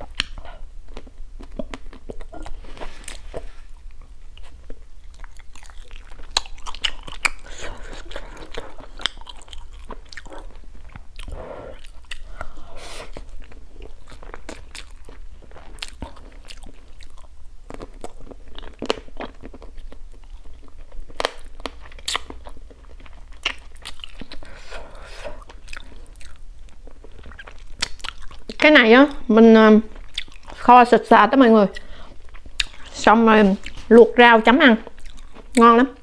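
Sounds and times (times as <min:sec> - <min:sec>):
close chewing with crunches: 0:00.0 - 0:36.0.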